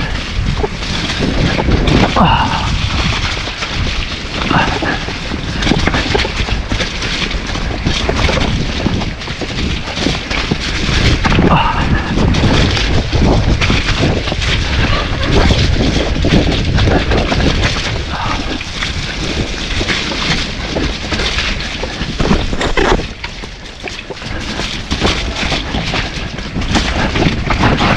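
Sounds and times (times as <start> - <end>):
bike knocks and rattles: 0.0 - 27.9
wind buffeting microphone: 0.0 - 27.9.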